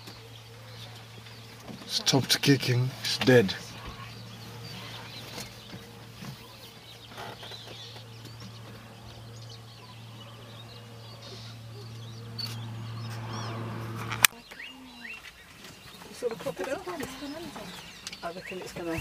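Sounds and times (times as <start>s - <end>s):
steady low hum: 0.0s - 16.0s
birds chirping: 0.0s - 19.0s.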